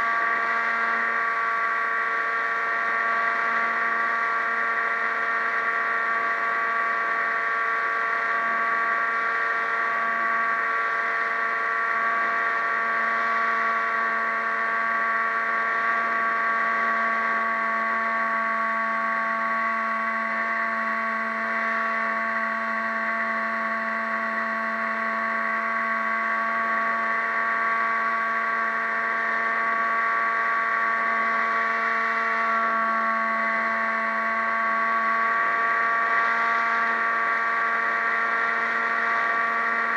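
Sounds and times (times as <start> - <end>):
boat motor whine: 0.0 - 39.9.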